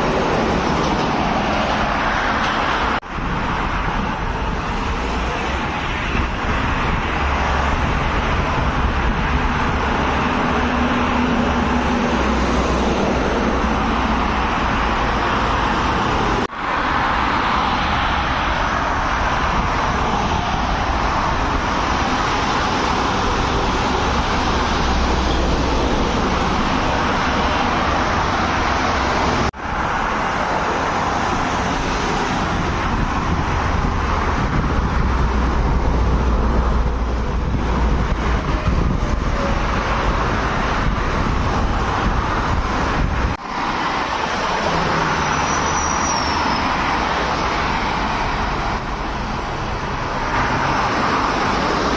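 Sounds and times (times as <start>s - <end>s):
highway traffic: 0.0s - 51.9s.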